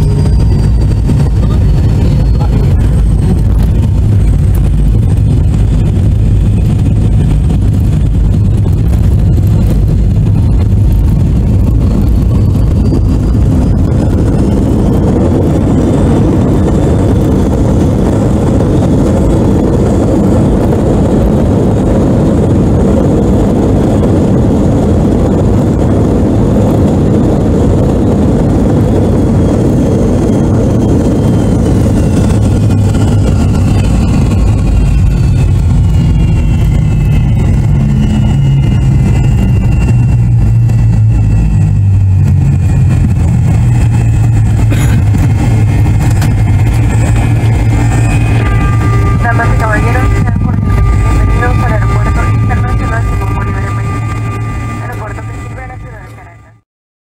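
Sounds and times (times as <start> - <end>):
jet engines roaring: 0.0 - 56.6
runway rumble: 0.0 - 56.6
jet engine whine: 0.0 - 56.7.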